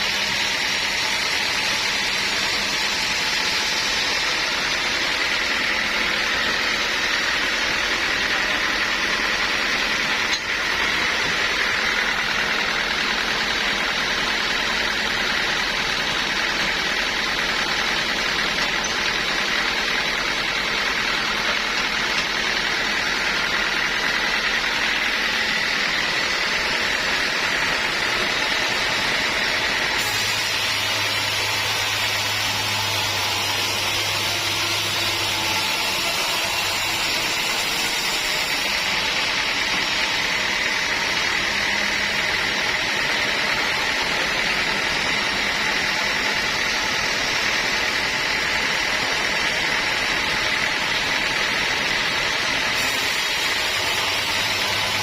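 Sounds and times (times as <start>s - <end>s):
high mechanical whine: 0.0s - 55.0s
sawmill machinery running: 0.0s - 55.0s.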